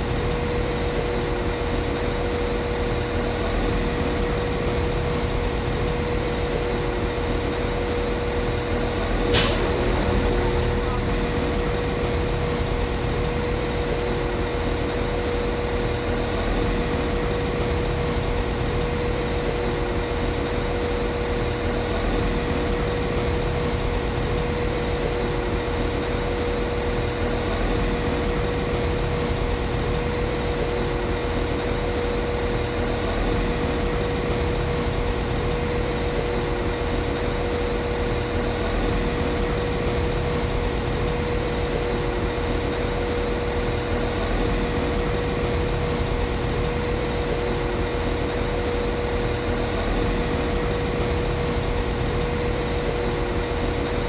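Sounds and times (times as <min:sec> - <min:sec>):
steady high hum: 0:00.0 - 0:54.0.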